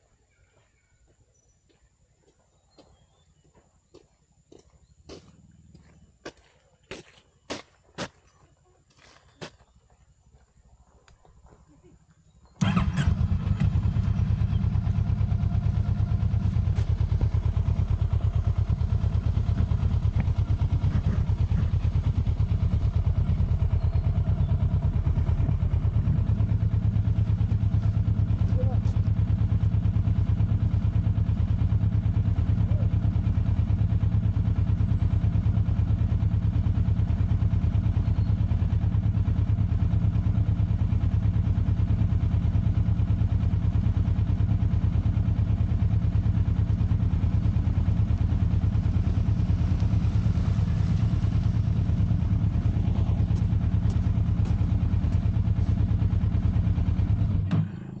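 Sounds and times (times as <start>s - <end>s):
motorcycle engine running: 4.7s - 7.0s, 8.5s - 58.0s.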